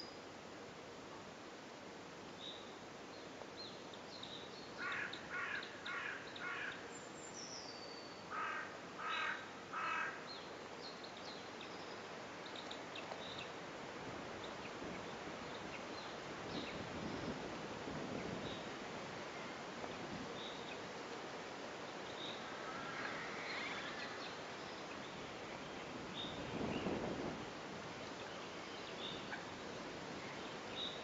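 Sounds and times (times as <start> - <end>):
outdoor hiss: 0.0 - 31.0
small birds chirping faintly: 0.0 - 31.0.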